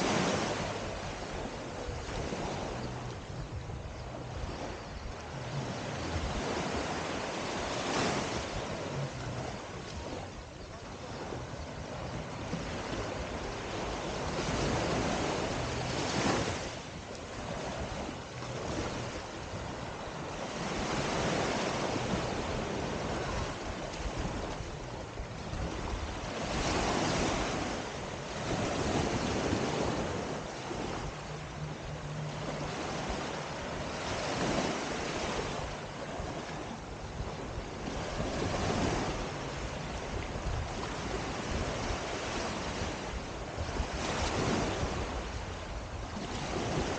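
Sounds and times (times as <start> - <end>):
small waves washing on sand: 0.0 - 46.9
wind buffeting microphone: 0.0 - 46.9.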